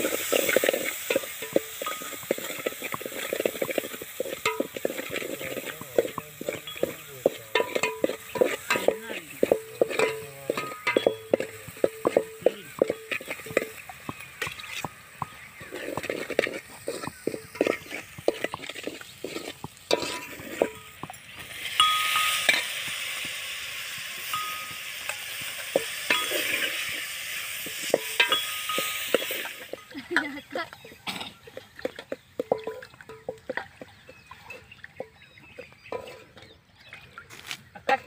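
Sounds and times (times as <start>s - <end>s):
beans sizzling in hot oil: 0.0s - 34.2s
ladle scraping metal pot: 0.0s - 38.0s.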